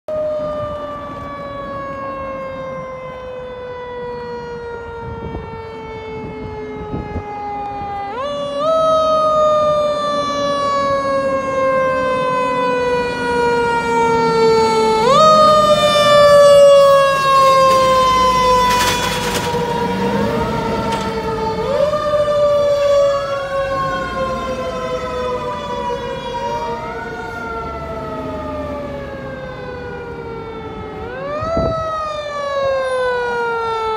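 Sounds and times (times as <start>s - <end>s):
fire engine siren wailing: 0.1s - 33.9s.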